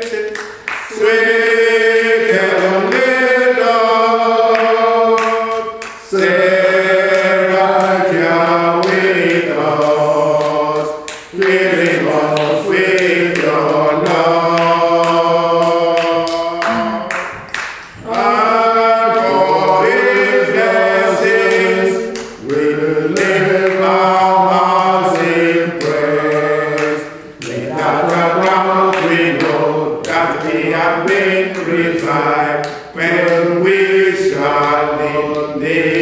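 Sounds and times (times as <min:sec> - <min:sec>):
person singing unaccompanied: 0:00.0 - 0:36.0.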